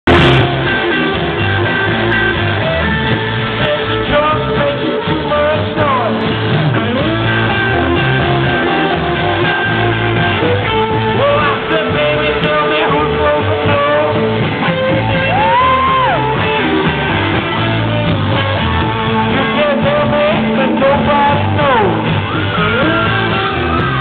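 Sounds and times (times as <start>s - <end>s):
electric guitars: 0.0s - 24.0s
live rock band playing: 0.0s - 24.0s.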